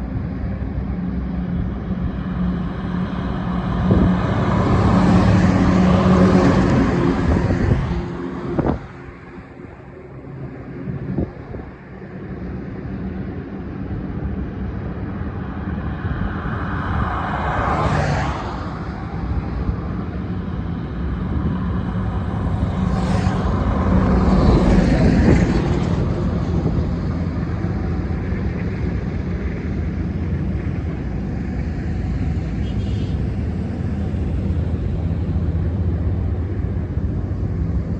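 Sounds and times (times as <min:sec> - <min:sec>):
highway traffic rumble: 0:00.0 - 0:37.9
vehicles passing close by: 0:00.0 - 0:37.9.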